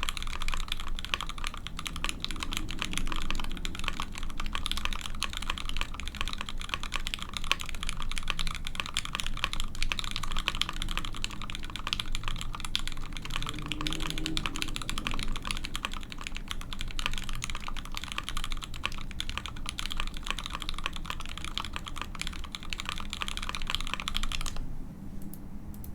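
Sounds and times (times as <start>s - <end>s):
fast mechanical keyboard typing: 0.0s - 24.7s.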